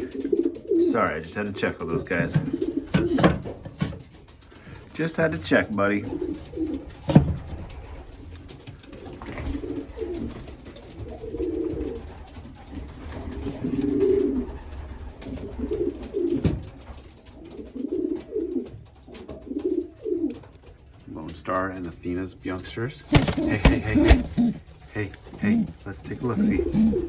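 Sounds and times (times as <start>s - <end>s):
pigeons cooing: 0.0s - 20.4s, 23.1s - 27.0s.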